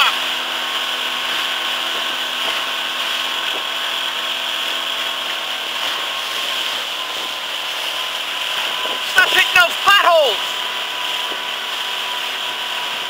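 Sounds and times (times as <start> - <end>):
outboard motor whine: 0.0 - 13.0
water rushing: 0.0 - 13.0
wind: 0.0 - 13.0.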